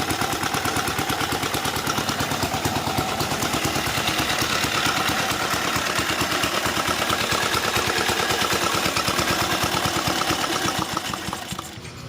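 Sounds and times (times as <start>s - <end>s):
diesel motorcycle engine running: 0.0s - 12.0s.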